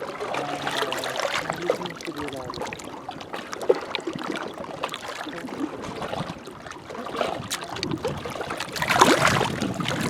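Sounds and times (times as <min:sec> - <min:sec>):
small waves lapping against rocks: 0:00.0 - 0:10.0
water splash: 0:00.0 - 0:10.0.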